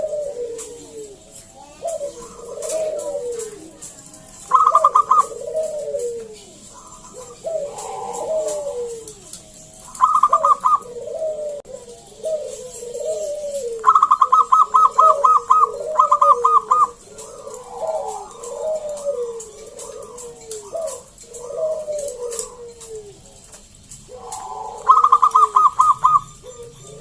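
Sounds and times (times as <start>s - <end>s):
dove coos sliding down: 0.0s - 27.0s.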